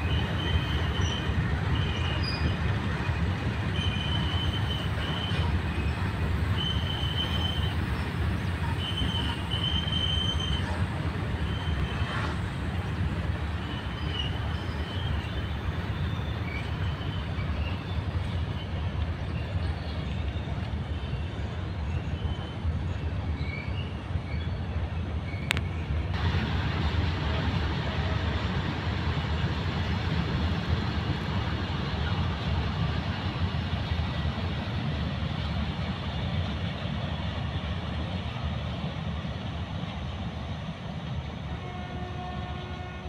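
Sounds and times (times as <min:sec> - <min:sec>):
freight train rolling on rails: 0:00.0 - 0:43.0.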